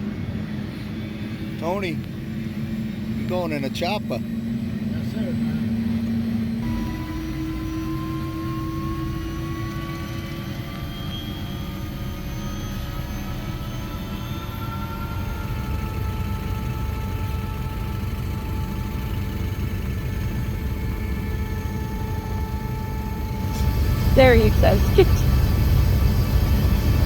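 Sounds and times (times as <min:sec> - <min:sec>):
helicopter turbine whine: 0:00.0 - 0:27.0.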